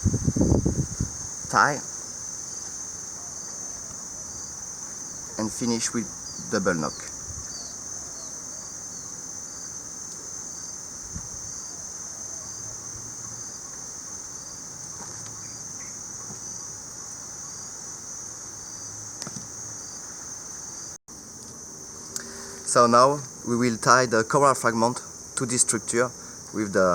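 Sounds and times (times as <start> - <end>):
insects trilling: 0.0 - 26.9.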